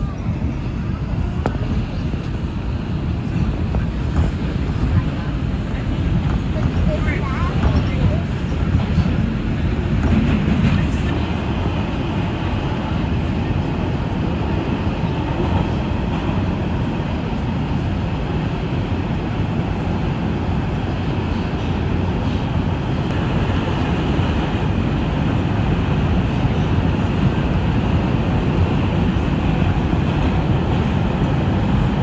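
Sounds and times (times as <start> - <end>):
subway car rumbling: 0.0 - 32.0.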